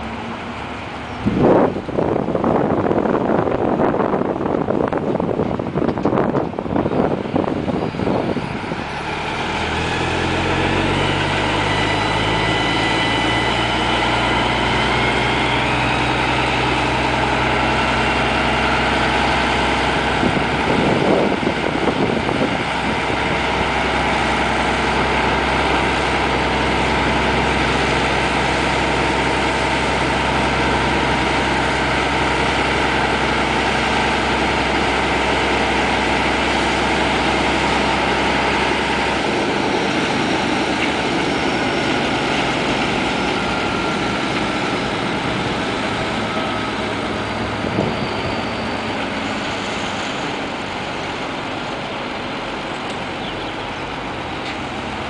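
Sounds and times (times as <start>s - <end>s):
wood chipper engine revving: 8.8s - 55.0s.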